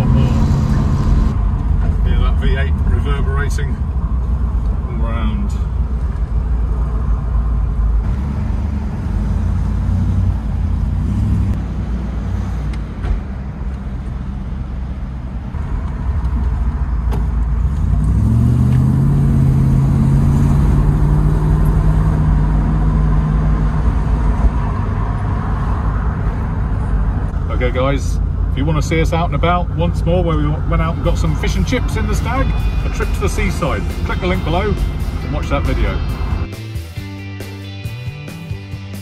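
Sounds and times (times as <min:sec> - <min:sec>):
car engine burbling and accelerating: 0:00.0 - 0:39.0.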